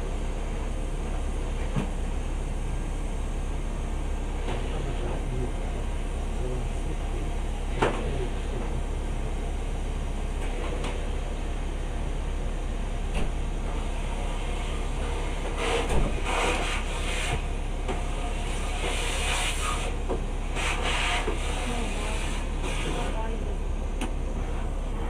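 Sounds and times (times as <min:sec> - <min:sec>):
train low hum: 0:00.0 - 0:25.0.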